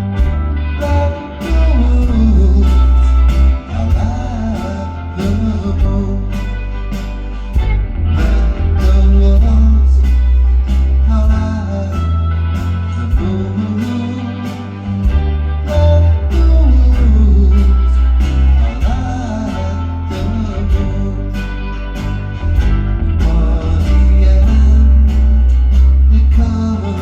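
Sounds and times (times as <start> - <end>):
person singing: 0.0 - 6.9, 8.0 - 22.2, 23.0 - 27.0
live rock band playing: 0.0 - 27.0.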